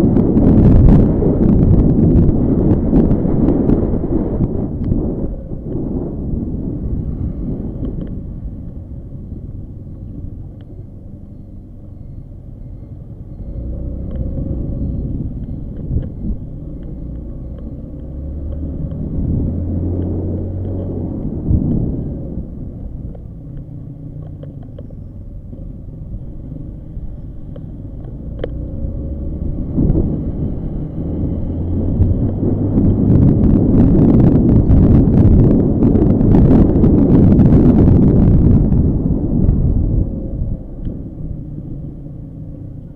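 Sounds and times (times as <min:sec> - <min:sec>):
motorcycle engine rumbling: 0:00.0 - 0:42.9
wind noise on microphone: 0:00.0 - 0:42.9.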